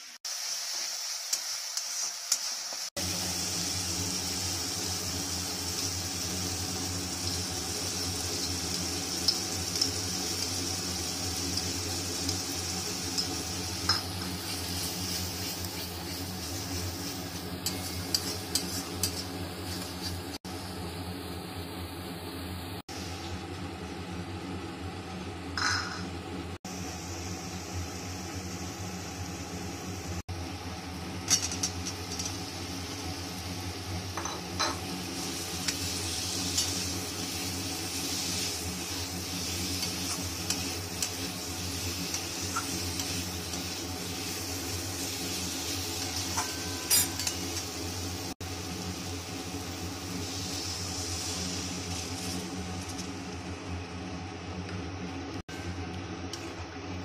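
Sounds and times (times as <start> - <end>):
food sizzling in a pan: 0.0 - 23.4, 26.7 - 54.1.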